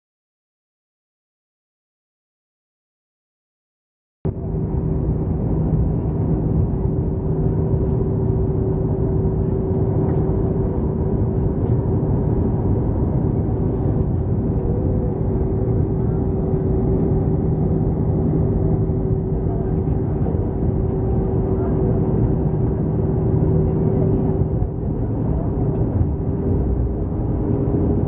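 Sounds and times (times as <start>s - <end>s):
jet engines roaring: 4.3s - 28.0s
steady hum: 4.3s - 28.0s.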